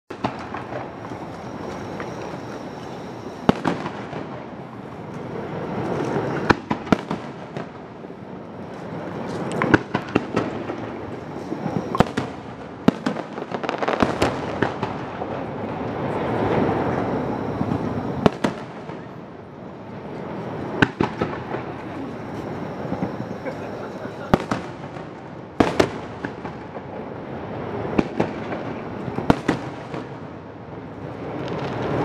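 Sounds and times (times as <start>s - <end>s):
firework bangs: 0.1s - 32.0s
firework crackling: 0.1s - 32.0s.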